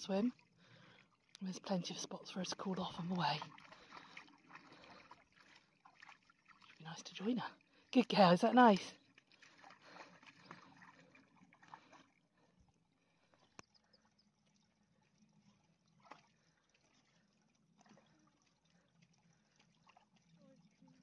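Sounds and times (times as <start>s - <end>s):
stream trickling over rocks: 0.0s - 21.0s.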